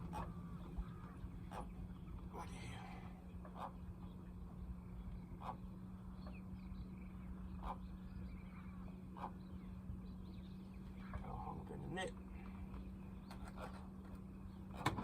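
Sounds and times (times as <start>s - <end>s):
trolling motor humming: 0.0s - 15.0s.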